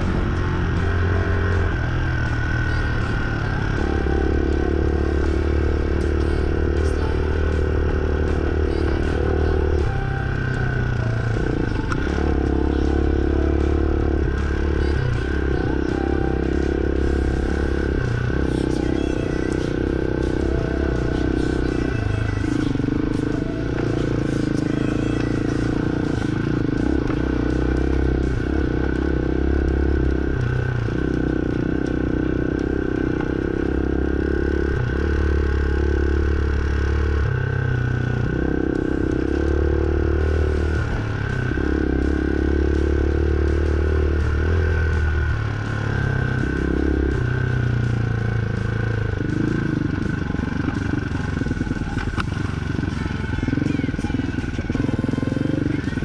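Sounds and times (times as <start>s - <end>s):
motorcycle engine revving: 0.0s - 56.0s
motorcycle rattling over bumps: 0.0s - 56.0s.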